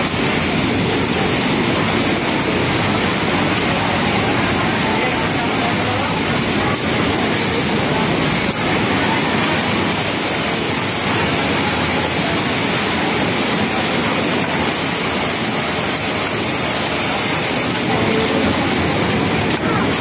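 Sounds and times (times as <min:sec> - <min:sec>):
sewing machines whirring: 0:00.0 - 0:20.0.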